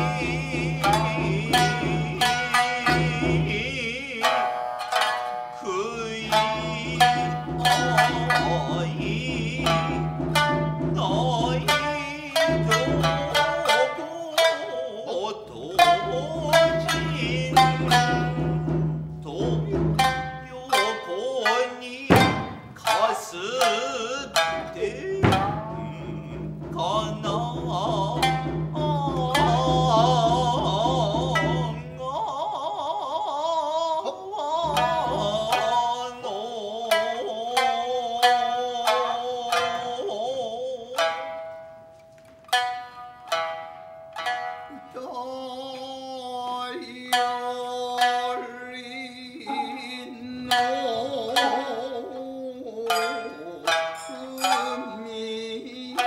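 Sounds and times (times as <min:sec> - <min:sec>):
person singing long wavering notes: 0:00.0 - 0:41.8, 0:44.4 - 0:56.0
plucked shamisen strokes: 0:00.0 - 0:56.0.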